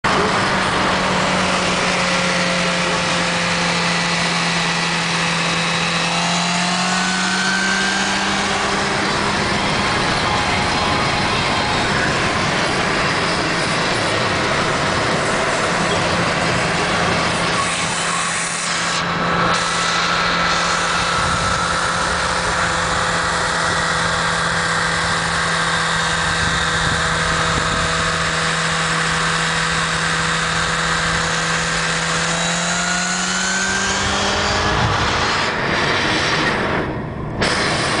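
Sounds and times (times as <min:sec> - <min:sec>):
engine drone: 0:00.0 - 0:38.0
road and wind noise in car: 0:00.1 - 0:38.0.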